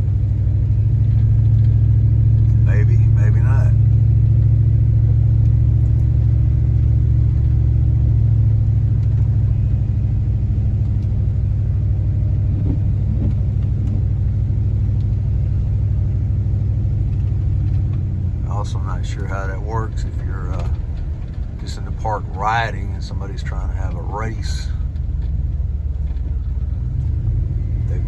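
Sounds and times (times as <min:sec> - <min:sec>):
car driving engine and tyre drone: 0:00.0 - 0:28.0.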